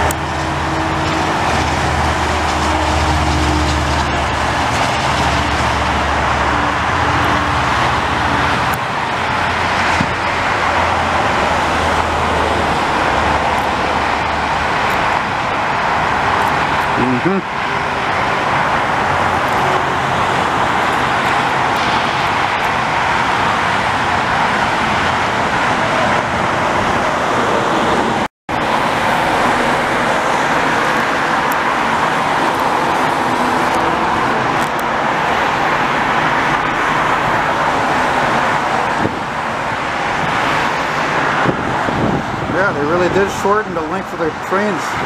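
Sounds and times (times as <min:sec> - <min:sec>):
highway traffic: 0:00.0 - 0:45.0.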